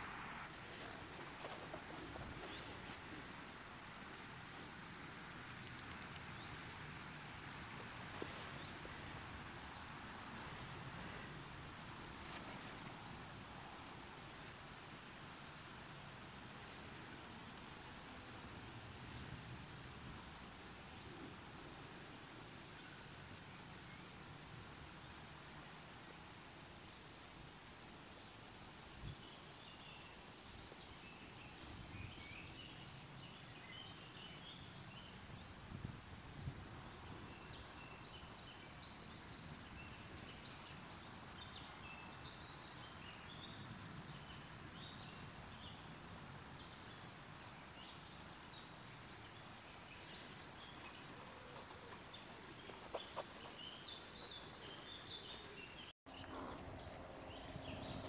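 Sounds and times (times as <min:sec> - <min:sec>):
steady hiss: 0:00.0 - 0:56.9.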